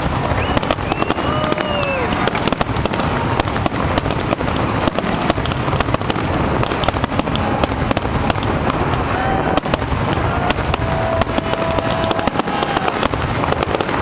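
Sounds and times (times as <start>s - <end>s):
firework whistling: 0.0s - 14.0s
fireworks bangs and crackles: 0.0s - 14.0s.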